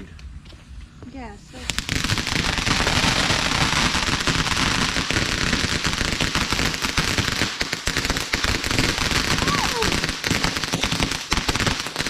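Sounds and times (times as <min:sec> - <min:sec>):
firework crackling hiss: 0:01.4 - 0:12.0.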